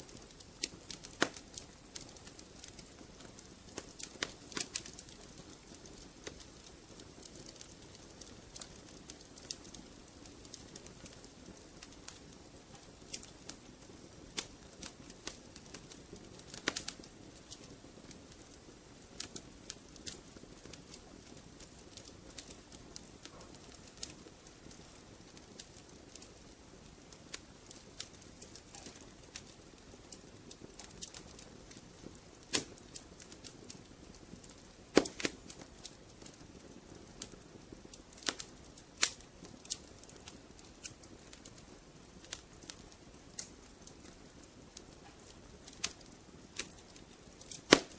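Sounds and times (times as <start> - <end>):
fire popping and snapping: 0.0 - 47.9
wood fire crackling: 0.0 - 47.9.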